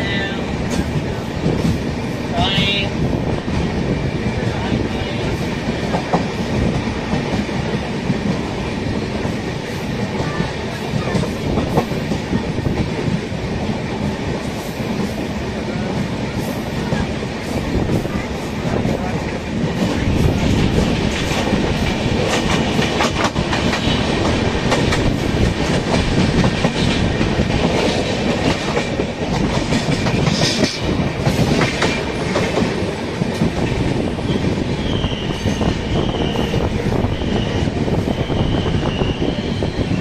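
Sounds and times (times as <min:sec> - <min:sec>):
train wheels clattering: 0:00.6 - 0:40.0.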